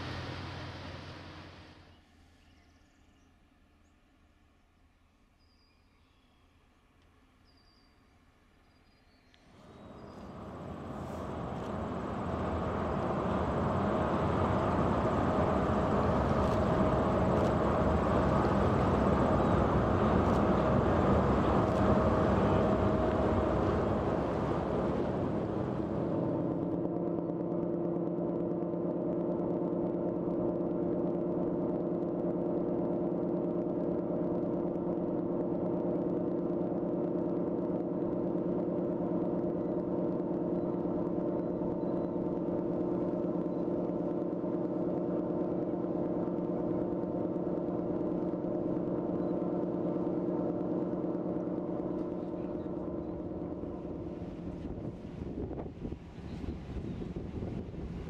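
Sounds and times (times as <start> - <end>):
passing ship engine: 0.0 - 1.8, 9.6 - 58.0
ship machinery hum: 0.0 - 1.8, 9.6 - 58.0.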